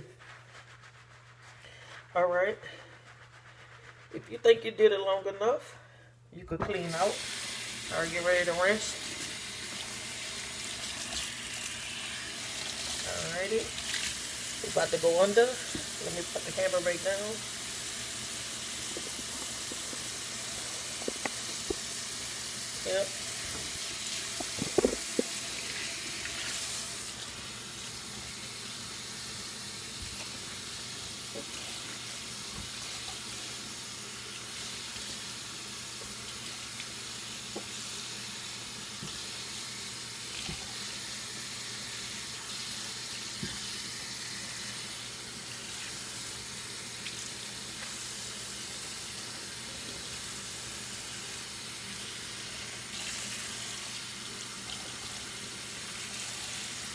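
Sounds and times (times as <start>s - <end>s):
tap water running: 6.7s - 56.9s.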